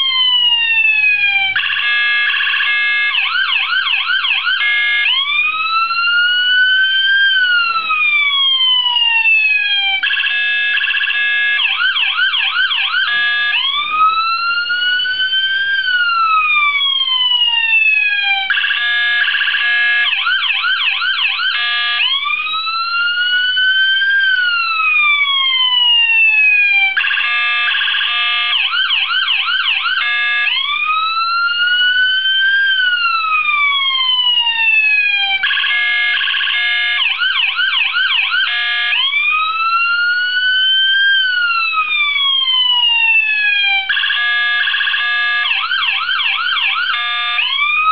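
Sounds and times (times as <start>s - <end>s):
police siren wailing and yelping: 0.0s - 47.9s.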